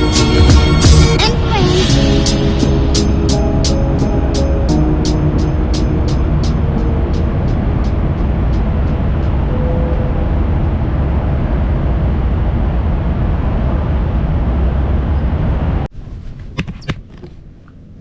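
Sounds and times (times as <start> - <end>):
motorcycle engine rumble: 0.0 - 18.0
wind buffeting: 1.2 - 18.0.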